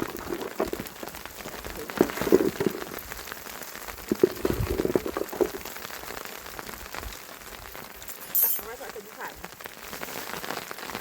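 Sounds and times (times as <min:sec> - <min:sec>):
rain patter: 0:00.0 - 0:11.0.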